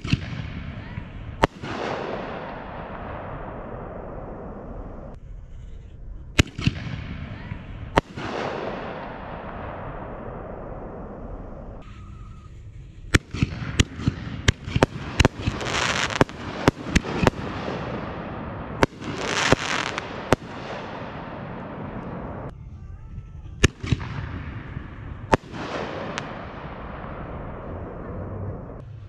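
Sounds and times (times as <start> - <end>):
fireworks bangs: 0.0 - 5.2, 6.4 - 22.5, 23.6 - 29.0
fireworks crackling: 0.0 - 22.5, 23.6 - 28.8.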